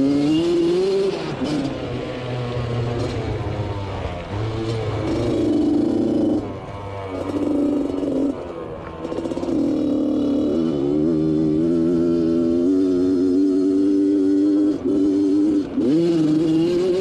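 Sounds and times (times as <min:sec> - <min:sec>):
two-stroke quad engine revving: 0:00.0 - 0:17.0.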